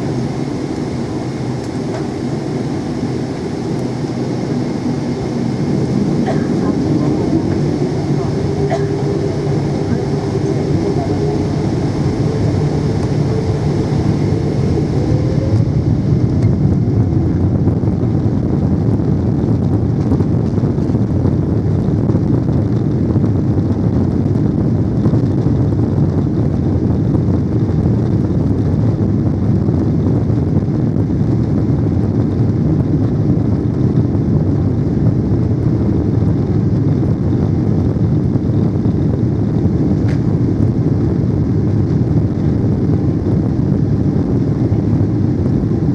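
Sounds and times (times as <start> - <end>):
jet engine rumble in cabin: 0.0 - 45.9.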